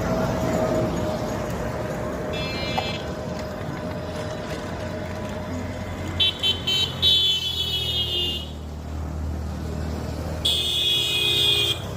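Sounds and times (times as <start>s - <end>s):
low rumble of engine and traffic: 0.0s - 11.9s.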